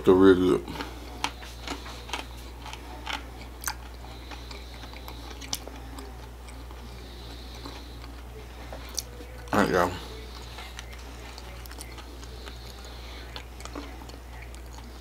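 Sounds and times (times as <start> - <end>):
steady low hum: 0.0 - 15.0
person chewing with crunches: 0.4 - 15.0.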